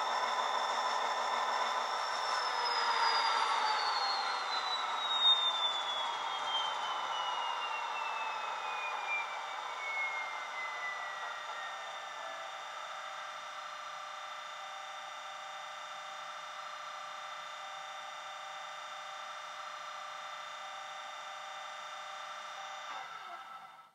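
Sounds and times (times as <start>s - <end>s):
high whine falling in pitch: 0.0s - 23.0s.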